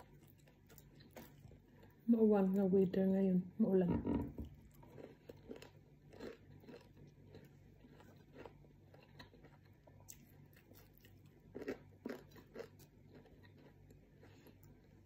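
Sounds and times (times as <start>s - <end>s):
chewing and crunching: 0.0s - 2.7s, 4.4s - 15.0s.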